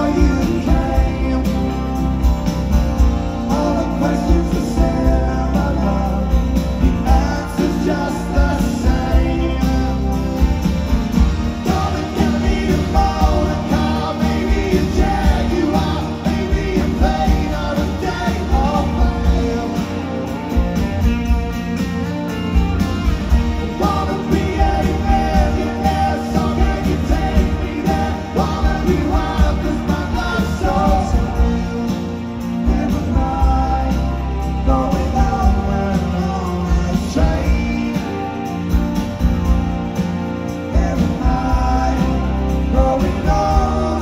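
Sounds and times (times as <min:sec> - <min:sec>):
man singing lead: 0:00.0 - 0:21.4, 0:23.3 - 0:39.0, 0:39.9 - 0:44.0
rock band playing live: 0:00.0 - 0:44.0.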